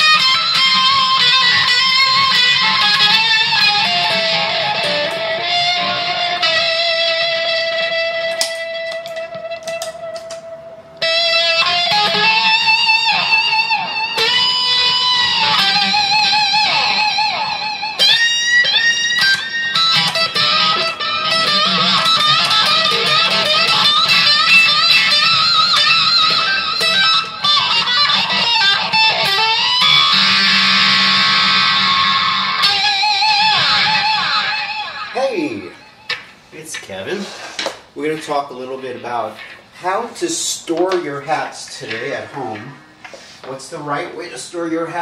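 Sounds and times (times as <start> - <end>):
electric guitar rock solo: 0.0 - 36.6.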